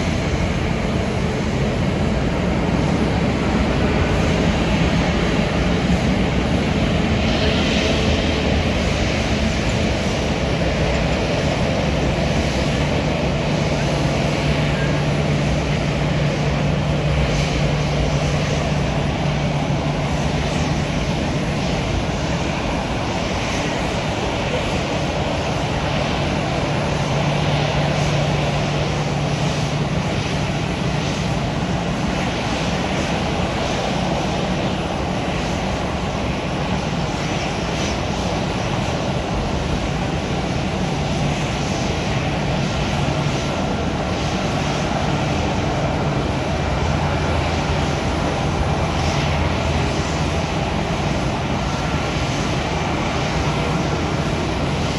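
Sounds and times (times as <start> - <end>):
airliner engines rushing: 0.0 - 54.9.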